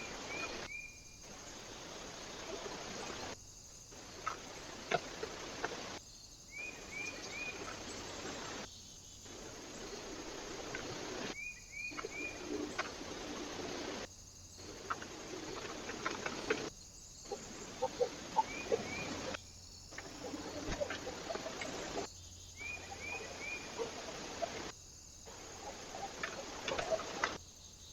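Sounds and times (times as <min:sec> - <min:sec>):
small birds chirping: 0:00.0 - 0:24.7
microphone hiss: 0:00.0 - 0:27.9.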